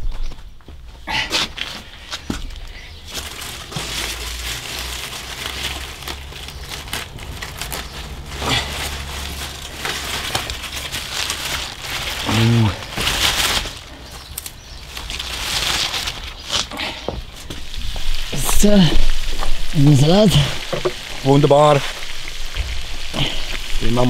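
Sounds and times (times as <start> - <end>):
lettuce leaves rustling and crunching: 1.4 - 24.0.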